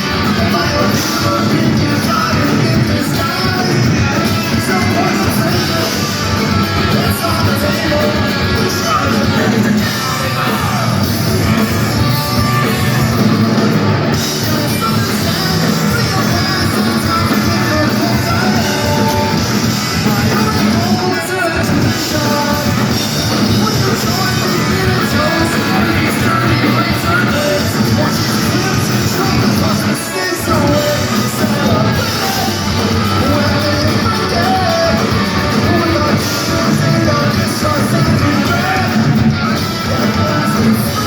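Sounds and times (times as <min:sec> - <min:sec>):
person singing: 0:00.0 - 0:41.0
punk rock band playing live: 0:00.0 - 0:41.0.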